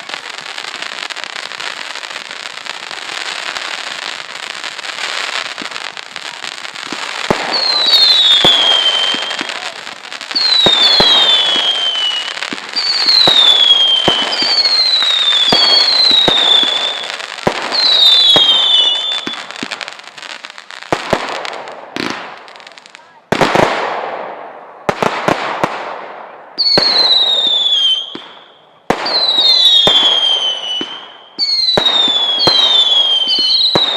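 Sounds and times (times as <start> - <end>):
fireworks crackle: 0.0 - 33.9
fireworks sharp bangs: 0.0 - 33.9
whistling fireworks: 0.0 - 33.9.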